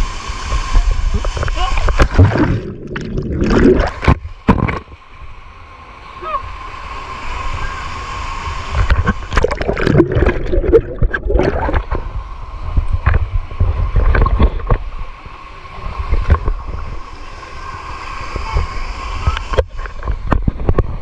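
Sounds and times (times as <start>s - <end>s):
rumble buffeting the microphone: 0.0s - 5.0s, 8.6s - 21.0s
water rushing and splashing: 0.0s - 21.0s.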